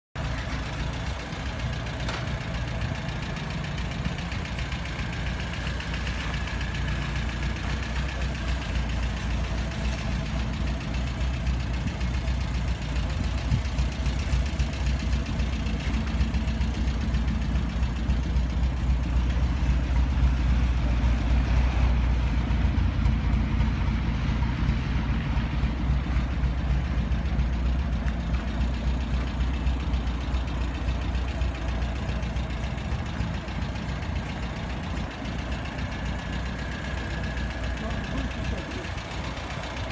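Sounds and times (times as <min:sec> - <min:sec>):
car engine idling: 0:00.2 - 0:39.9.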